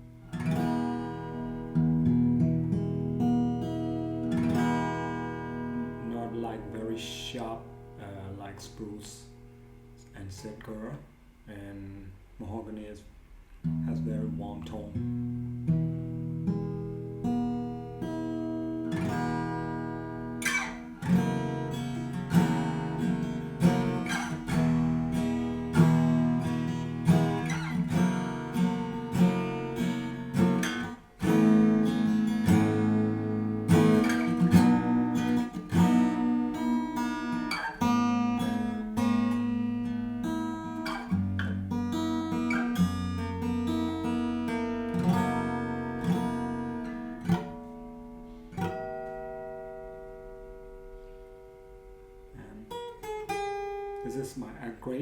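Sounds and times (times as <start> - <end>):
picked guitar notes: 0.0 - 12.8, 13.6 - 55.0
acoustic guitar strumming chords: 0.0 - 13.0, 13.6 - 55.0.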